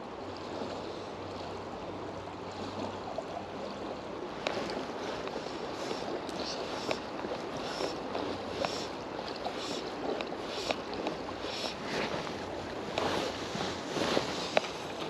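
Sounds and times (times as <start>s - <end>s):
river water flowing over stones: 0.0s - 15.0s.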